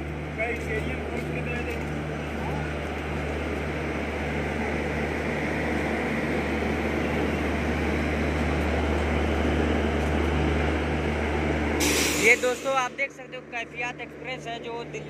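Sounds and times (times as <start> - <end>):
locomotive low hum: 0.0 - 15.0
wheels rumbling on rail: 0.0 - 15.0.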